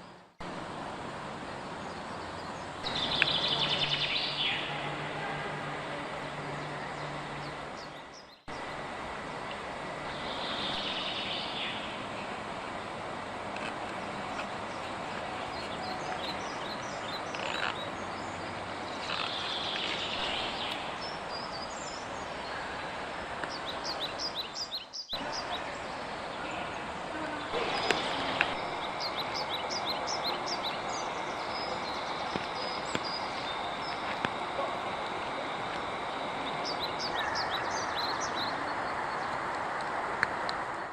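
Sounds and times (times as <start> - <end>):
small birds chirping: 1.6 - 5.4, 6.1 - 8.8, 9.5 - 12.4, 13.6 - 39.5.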